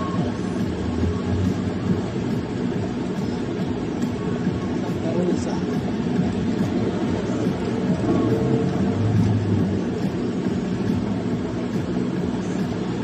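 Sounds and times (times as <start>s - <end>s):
car engine idling: 0.0s - 13.0s
traffic hum: 0.0s - 13.0s.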